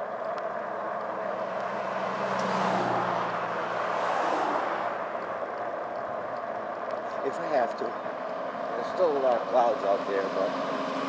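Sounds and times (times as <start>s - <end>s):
vehicles passing close by: 0.0s - 11.0s.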